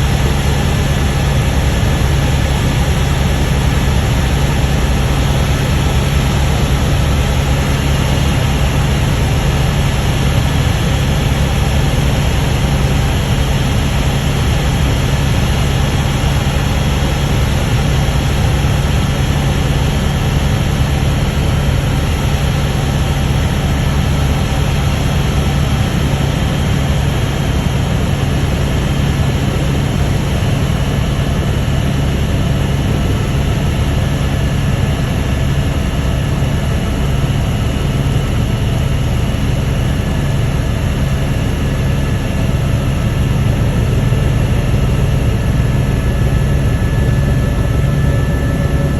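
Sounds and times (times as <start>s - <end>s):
helicopter engine and rotor drone: 0.0s - 48.9s.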